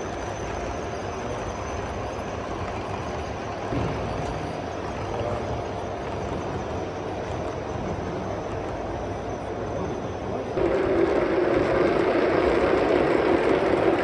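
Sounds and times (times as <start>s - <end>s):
hall background noise: 0.0s - 14.0s.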